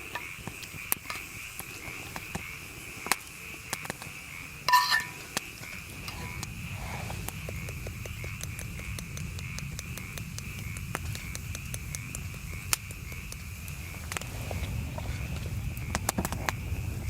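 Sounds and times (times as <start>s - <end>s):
campfire crackling and popping: 0.0s - 17.0s
high pulsing animal chorus: 0.0s - 17.0s.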